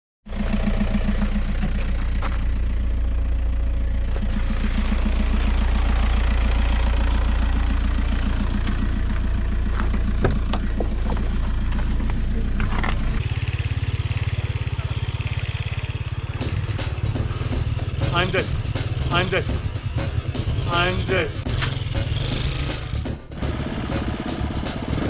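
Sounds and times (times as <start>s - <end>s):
van engine idling: 0.3s - 25.0s.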